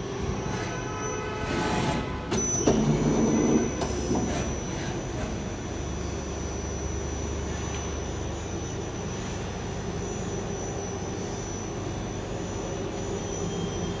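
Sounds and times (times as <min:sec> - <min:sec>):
high-pitched whine: 0:00.0 - 0:14.0
lathe mechanical hum: 0:00.0 - 0:14.0.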